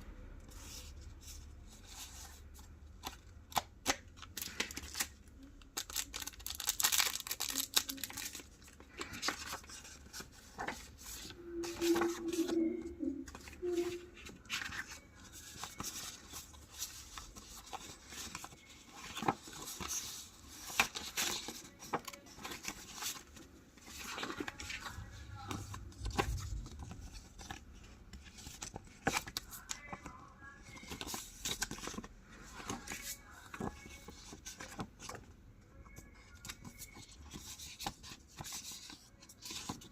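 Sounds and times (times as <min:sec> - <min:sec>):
paper rustling: 0:05.8 - 0:35.3, 0:36.0 - 0:39.9.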